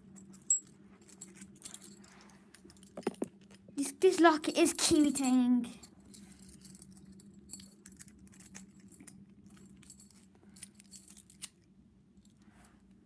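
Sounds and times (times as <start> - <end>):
keys jingling against a padlock: 0.0 - 3.6, 4.8 - 12.4.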